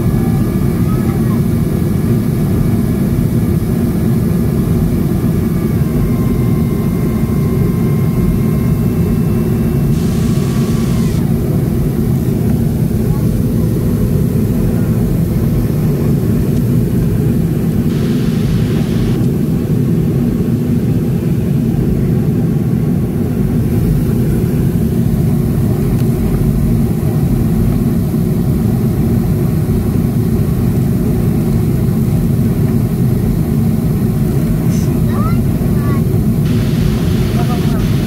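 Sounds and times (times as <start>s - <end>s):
jet engines low rumble: 0.0s - 38.0s.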